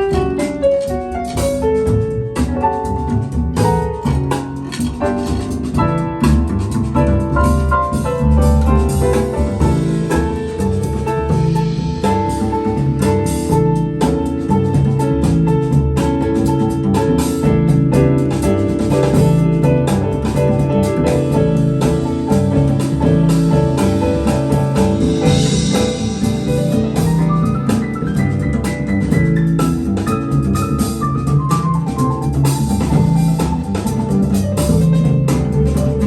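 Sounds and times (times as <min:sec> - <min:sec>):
instrumental pop music with drum beat: 0:00.0 - 0:36.0.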